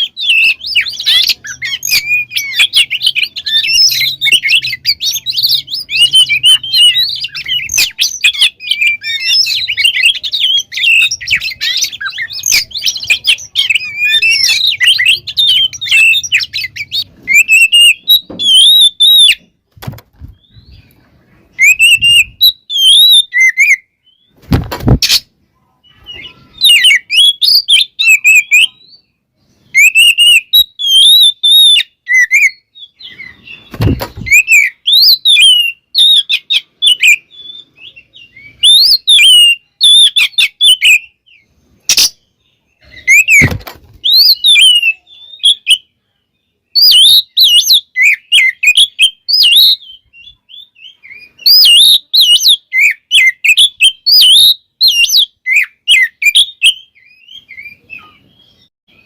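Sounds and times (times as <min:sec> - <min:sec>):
songbird whistles and trills: 0:00.0 - 0:59.0.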